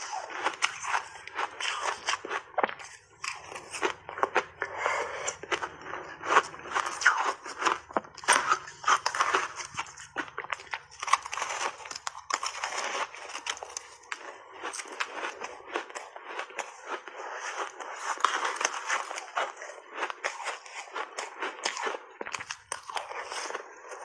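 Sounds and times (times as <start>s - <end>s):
ice being bitten and chewed: 0.0s - 24.0s.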